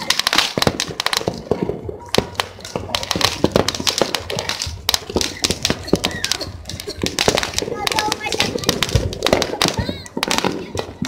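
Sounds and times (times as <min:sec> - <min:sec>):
firecrackers popping and banging: 0:00.0 - 0:11.0.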